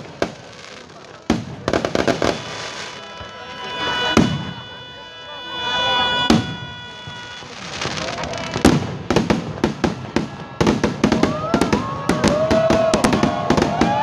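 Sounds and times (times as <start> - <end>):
fireworks bangs and crackles: 0.0 - 14.0
fireworks whistling: 0.0 - 14.0.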